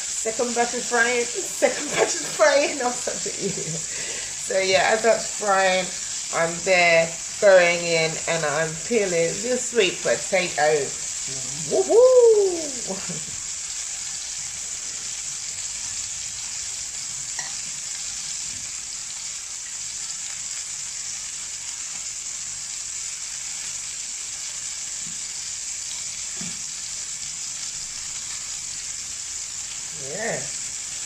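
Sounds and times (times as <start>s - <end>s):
chicken frying in hot oil: 0.0s - 31.0s.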